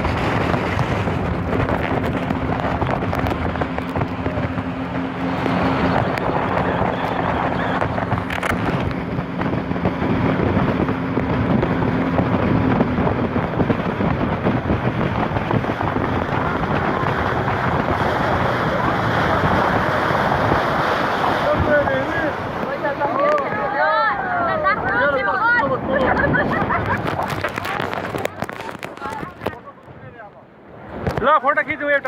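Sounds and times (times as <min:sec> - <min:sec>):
speedboat engine drone: 0:00.0 - 0:29.7
rushing water: 0:00.0 - 0:32.0
wind buffeting microphone: 0:00.0 - 0:32.0.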